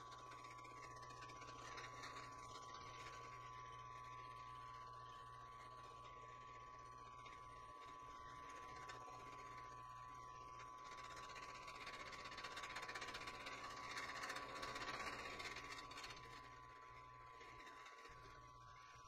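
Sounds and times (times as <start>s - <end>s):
milling spindle whine and hum: 0.0s - 19.0s.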